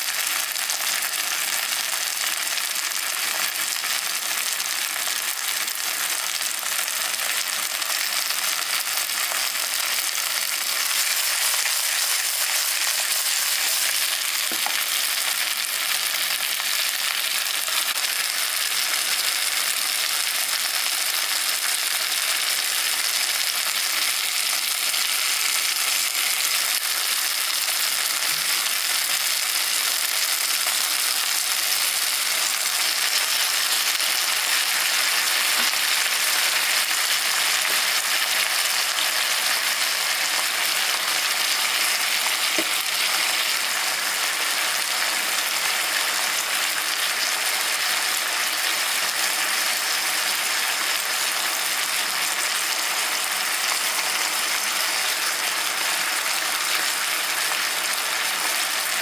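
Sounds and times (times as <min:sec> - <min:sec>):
vegetables sizzling in a wok: 0:00.0 - 0:59.0.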